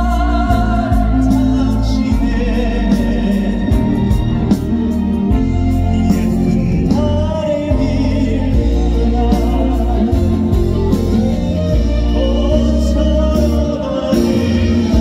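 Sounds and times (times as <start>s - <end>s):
live band with heavy bass: 0.0s - 15.0s.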